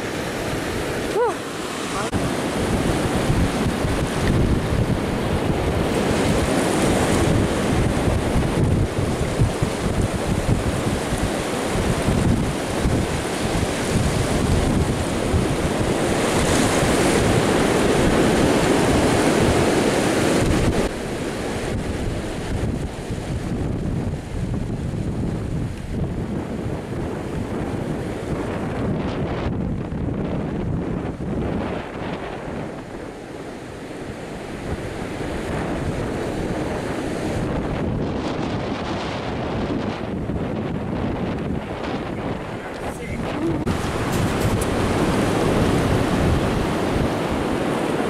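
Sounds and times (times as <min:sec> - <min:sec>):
surf breaking on a beach: 0:00.0 - 0:48.0
wind buffeting microphone: 0:00.0 - 0:48.0.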